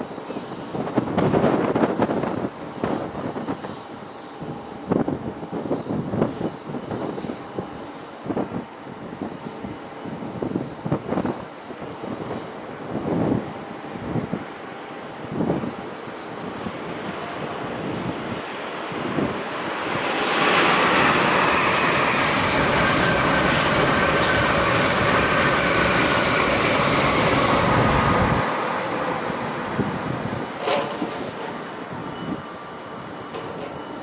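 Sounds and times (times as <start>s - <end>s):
train wheels rumbling on rail: 0.0s - 4.1s, 4.7s - 34.0s.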